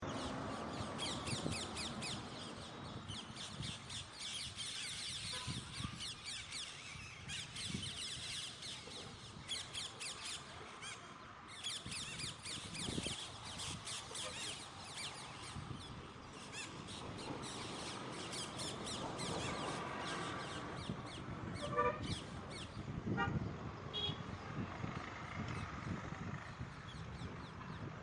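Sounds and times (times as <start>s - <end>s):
birds chirping: 0.0s - 24.6s.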